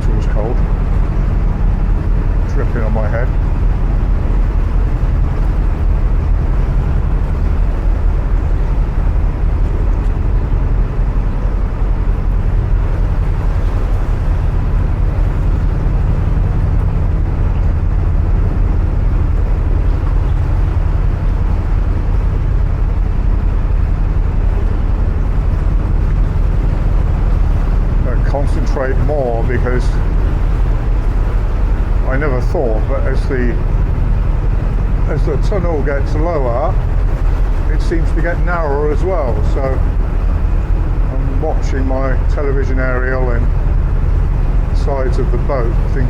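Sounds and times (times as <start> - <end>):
boat engine droning in tunnel: 0.0 - 46.0.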